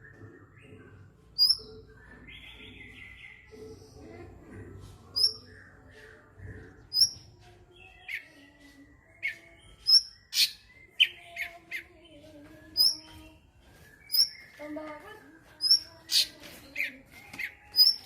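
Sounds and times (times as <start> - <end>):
songbird chirping and whistling: 0.0 - 3.9, 5.1 - 18.0.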